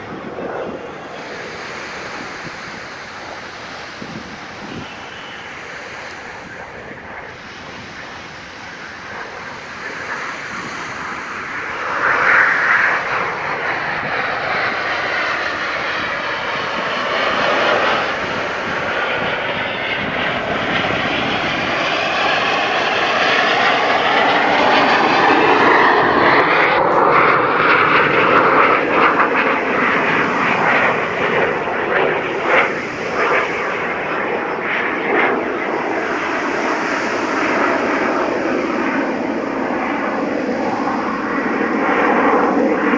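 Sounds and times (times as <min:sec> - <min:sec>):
jets flying past: 0:00.0 - 0:42.9.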